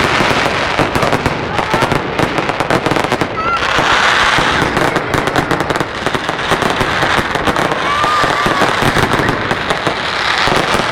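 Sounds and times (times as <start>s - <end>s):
fireworks crackling and popping: 0.0s - 10.9s.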